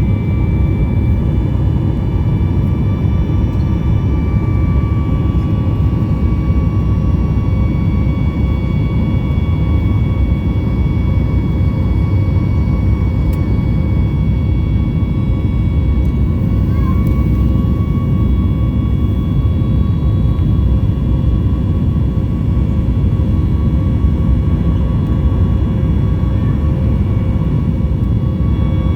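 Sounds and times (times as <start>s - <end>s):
jet engines rumbling and whining: 0.0s - 28.9s.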